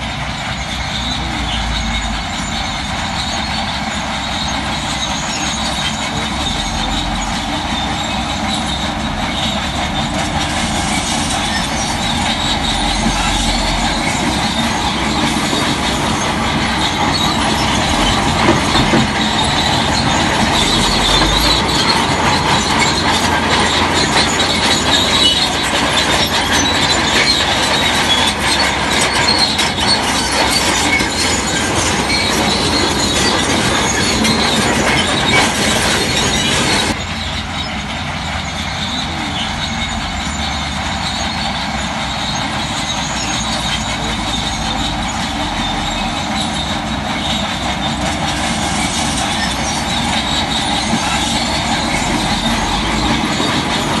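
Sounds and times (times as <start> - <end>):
bulldozer engine running: 0.0 - 54.0
bulldozer tracks squealing and clanking: 0.0 - 54.0.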